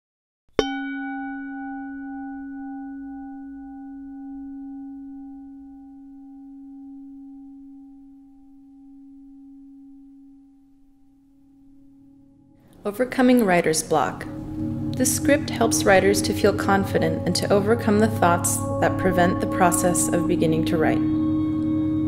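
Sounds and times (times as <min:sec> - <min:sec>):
singing bowl ringing: 0:00.6 - 0:22.0.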